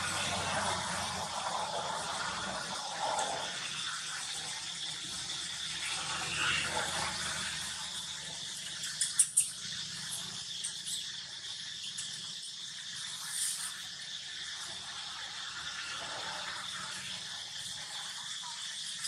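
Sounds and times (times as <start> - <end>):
insects chirring: 0.1 - 19.0.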